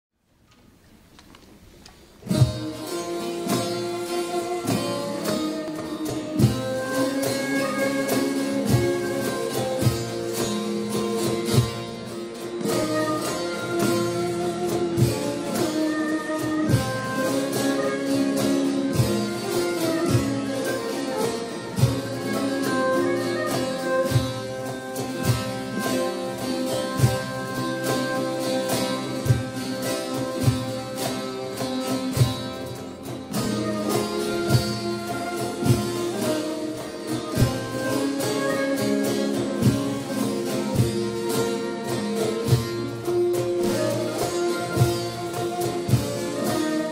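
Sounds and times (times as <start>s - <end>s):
plucked string instruments: 0.4s - 46.9s
drum strokes: 1.6s - 46.9s.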